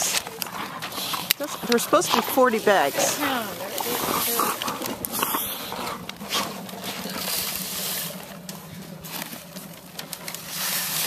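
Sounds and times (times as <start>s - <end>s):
cat litter pouring: 0.0s - 11.0s
paper bags rustling: 0.0s - 11.0s.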